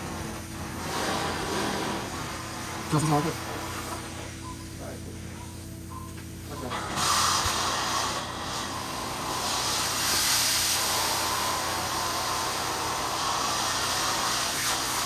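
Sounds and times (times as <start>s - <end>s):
carpet cleaning machine suction hiss: 0.0s - 4.4s, 6.6s - 15.0s.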